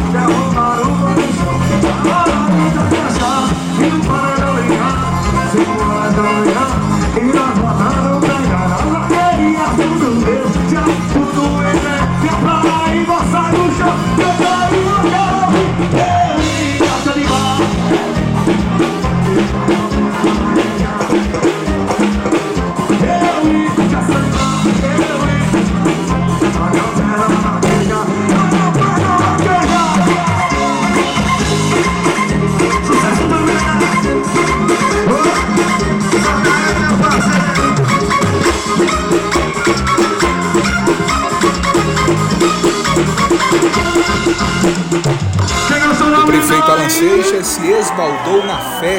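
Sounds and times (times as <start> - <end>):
person singing: 0.0 - 39.7
band playing a steady beat: 0.0 - 48.9.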